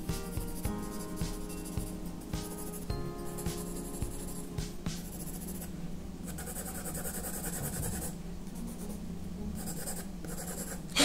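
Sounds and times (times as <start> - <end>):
pencil scratching on paper: 0.2 - 5.7, 6.3 - 9.0, 9.6 - 11.0.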